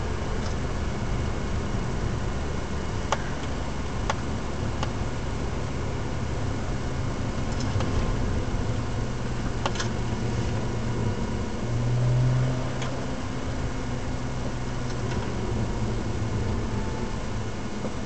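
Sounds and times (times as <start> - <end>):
car engine droning: 0.0 - 18.0
road noise: 0.0 - 18.0.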